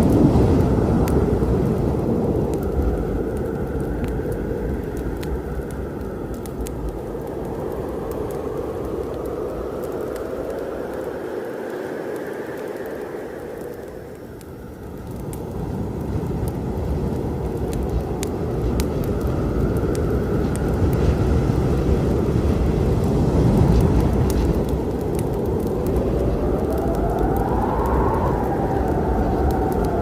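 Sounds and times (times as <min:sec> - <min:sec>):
rolling thunder: 0:00.0 - 0:11.0, 0:15.0 - 0:30.0
wood fire crackling: 0:00.0 - 0:30.0.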